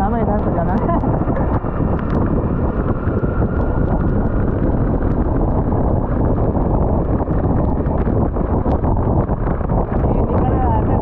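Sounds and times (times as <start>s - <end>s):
motorcycle engine and tyre noise: 0.0s - 11.0s
wind rushing over camera: 0.0s - 11.0s.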